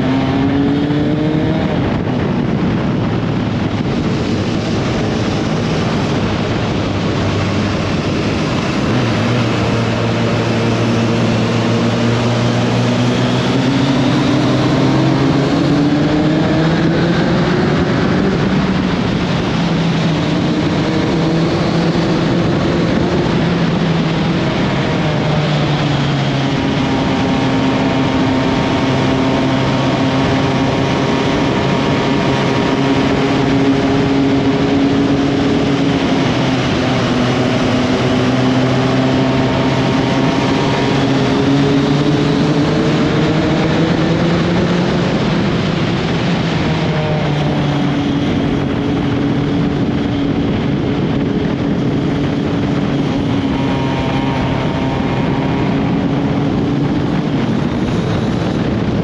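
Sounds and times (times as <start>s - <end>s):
motorcycle engine running: 0.0s - 59.0s
road noise: 0.0s - 59.0s
wind rush: 0.0s - 59.0s.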